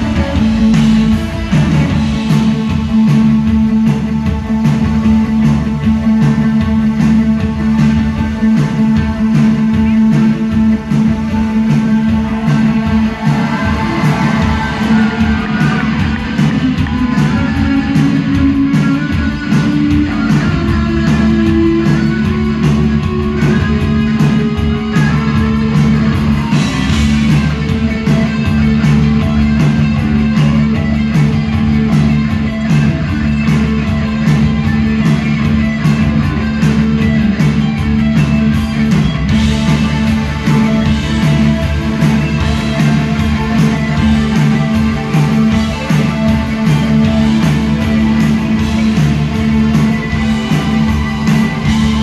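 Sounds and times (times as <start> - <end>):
bass guitar: 0.0 - 52.0
electric guitar: 0.0 - 52.0
keyboards: 0.0 - 52.0
steady drum beat: 0.0 - 52.0.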